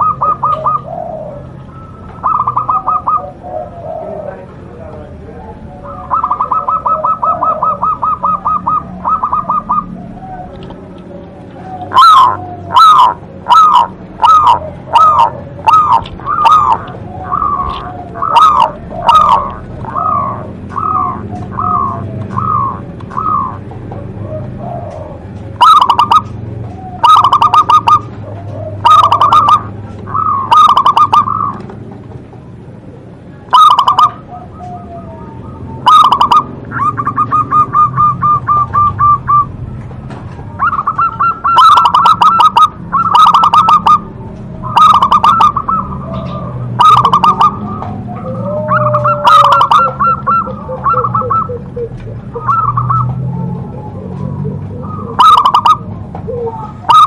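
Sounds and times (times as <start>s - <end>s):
dove cooing in trills: 0.0s - 57.0s
low background hum: 0.0s - 57.0s.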